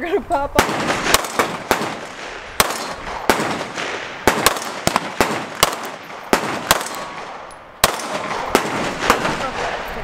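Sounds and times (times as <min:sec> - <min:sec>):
handgun shots: 0:00.6 - 0:09.8.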